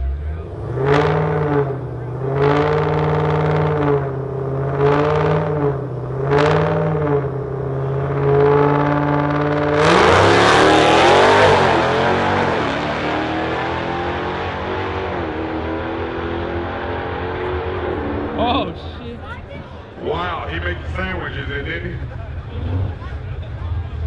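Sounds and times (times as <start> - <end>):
drag car engine revving: 0.0 - 24.0.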